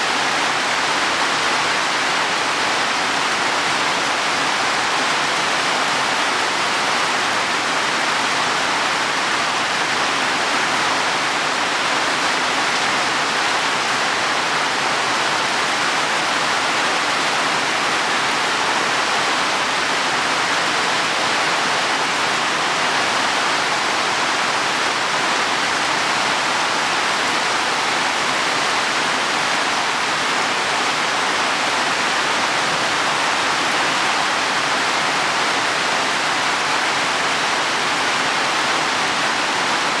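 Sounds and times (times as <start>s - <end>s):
heavy rain on leaves and soil: 0.0s - 40.0s.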